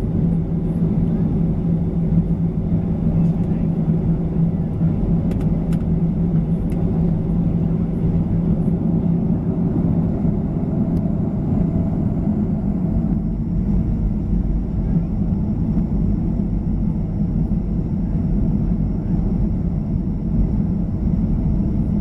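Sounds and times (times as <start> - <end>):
jet engines low rumble: 0.0 - 22.0.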